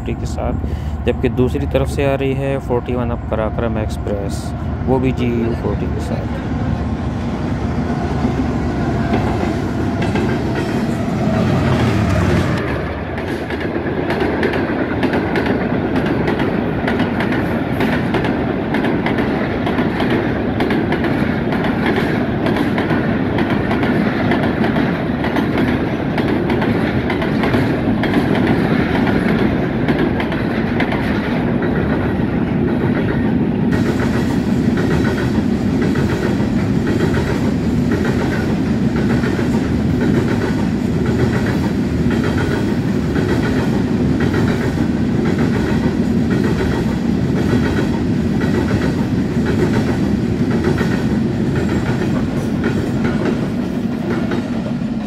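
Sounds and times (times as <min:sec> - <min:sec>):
diesel locomotive engine rumbling: 0:00.0 - 0:55.0
wheels clacking on rail joints: 0:08.2 - 0:10.9, 0:11.7 - 0:54.7.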